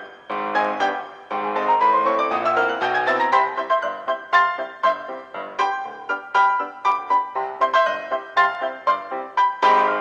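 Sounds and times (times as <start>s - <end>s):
piano-like keyboard melody: 0.0s - 10.0s.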